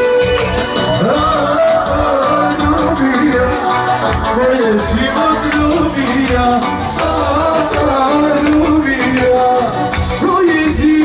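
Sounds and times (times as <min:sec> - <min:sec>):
keyboard folk melody: 0:00.0 - 0:11.0
steady drum beat: 0:00.0 - 0:11.0.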